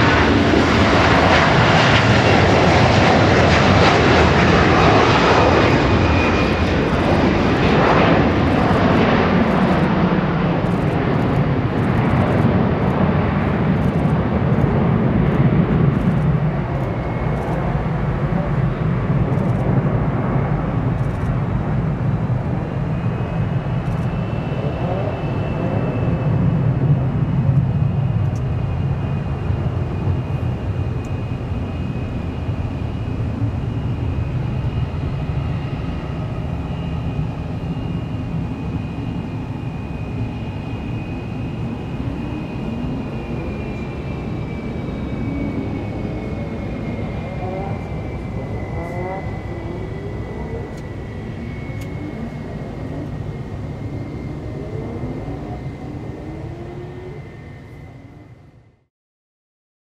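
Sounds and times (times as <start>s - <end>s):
jet engine rumble: 0.0s - 58.9s.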